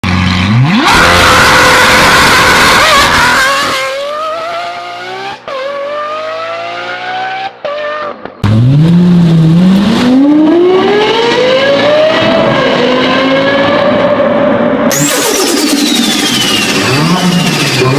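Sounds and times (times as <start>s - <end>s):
car engines accelerating hard: 0.0s - 17.9s.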